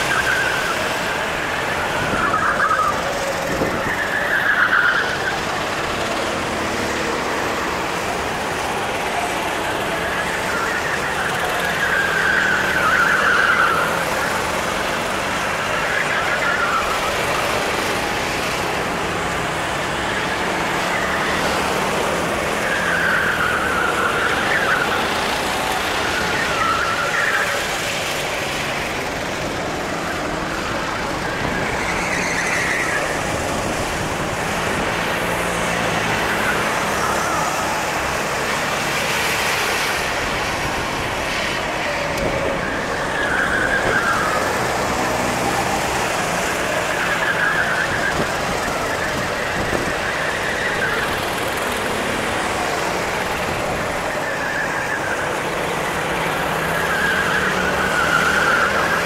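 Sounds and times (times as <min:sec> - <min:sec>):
drone of distant karts: 0:00.0 - 0:59.0
kart engines revving: 0:00.0 - 0:59.0.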